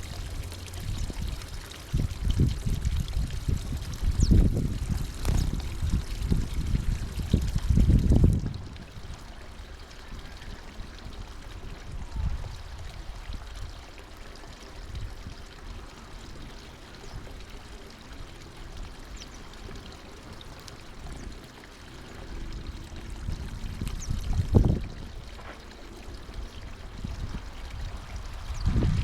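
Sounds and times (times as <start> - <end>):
water trickling and pouring: 0.0 - 29.0.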